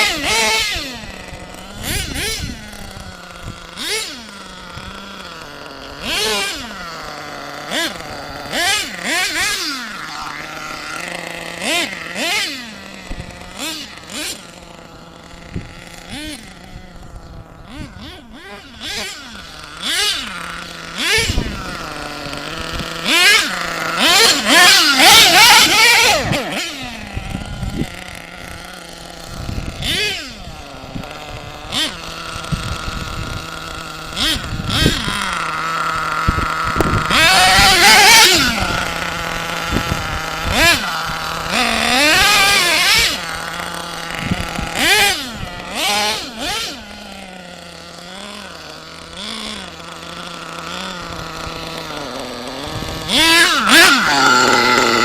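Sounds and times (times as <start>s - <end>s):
nitro engine revving: 0.0s - 55.0s.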